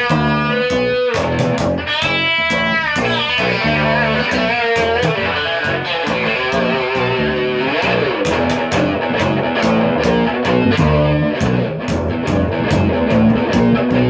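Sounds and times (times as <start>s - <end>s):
electric guitar: 0.0s - 14.0s
rock band music: 0.0s - 14.0s
drum hits: 0.7s - 14.0s.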